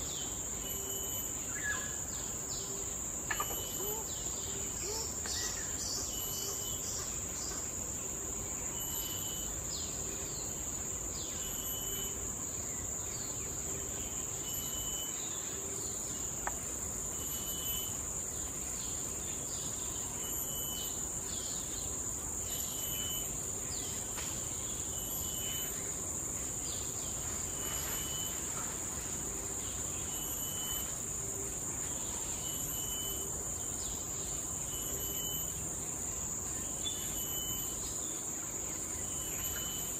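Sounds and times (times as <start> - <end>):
insects droning: 0.0 - 39.9
short insect chirp: 0.0 - 39.9.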